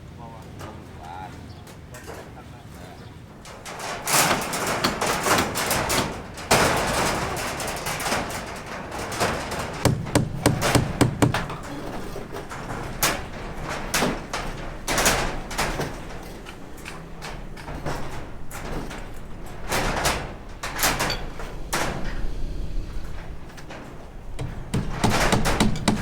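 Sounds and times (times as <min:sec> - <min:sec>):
scraping rustle: 0:00.4 - 0:26.0
building work knocks and thuds: 0:03.2 - 0:26.0.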